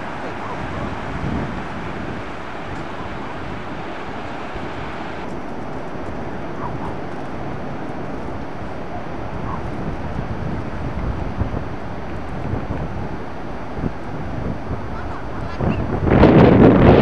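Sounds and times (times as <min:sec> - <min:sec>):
heavy surf breaking on beach: 0:00.0 - 0:17.0
wind buffeting microphone: 0:00.0 - 0:17.0.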